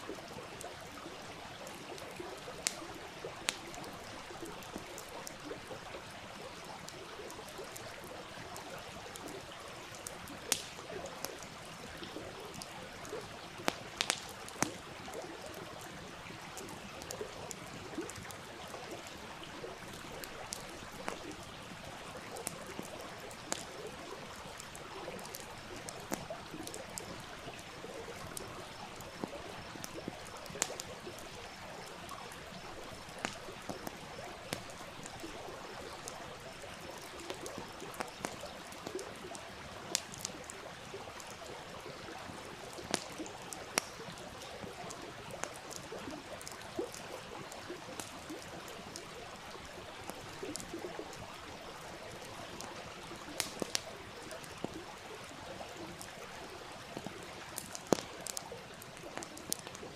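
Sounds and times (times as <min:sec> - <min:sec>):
campfire crackling and popping: 0:00.0 - 0:59.9
stream flowing: 0:00.0 - 0:59.9.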